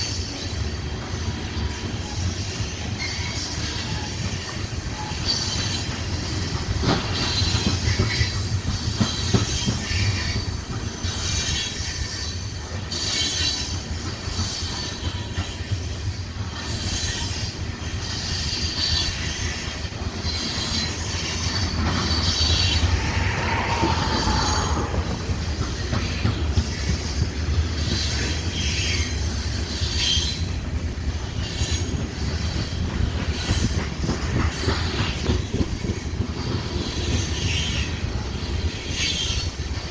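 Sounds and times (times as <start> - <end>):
freight train rumbling past: 0.0 - 39.9
wheel squeal: 0.0 - 39.9.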